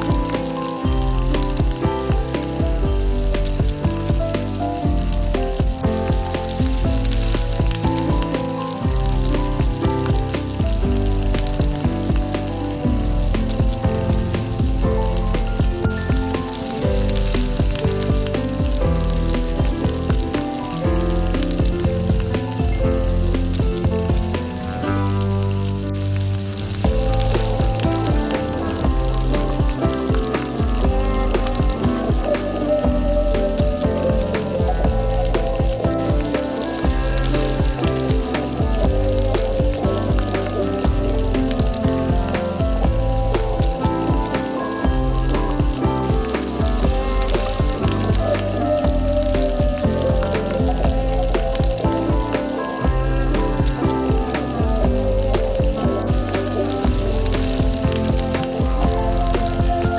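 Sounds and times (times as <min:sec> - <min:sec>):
background music: 0:00.0 - 0:59.9.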